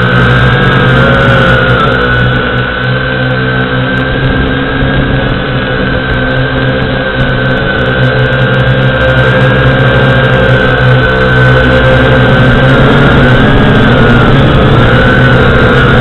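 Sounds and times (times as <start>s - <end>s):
small motor whining: 0.0s - 16.0s.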